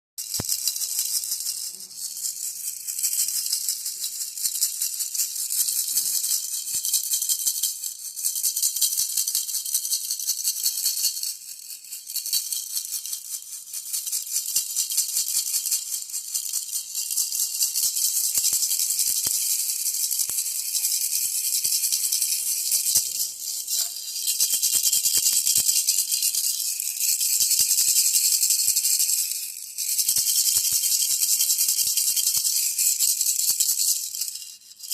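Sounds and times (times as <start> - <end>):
baby rattle shaking: 0.2 - 34.9.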